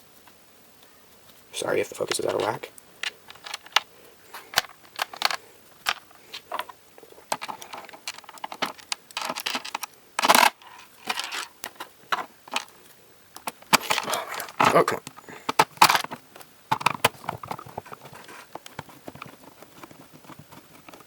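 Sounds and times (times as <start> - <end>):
screws and screwdriver on plastic: 3.0 - 12.8, 13.4 - 21.0.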